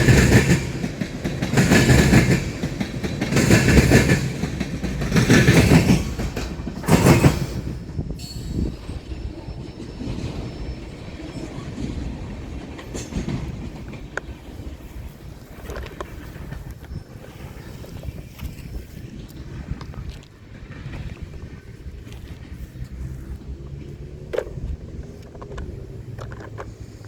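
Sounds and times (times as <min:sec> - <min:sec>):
freight train rumbling past: 0:00.0 - 0:27.0
train wheel clicks: 0:00.0 - 0:27.0.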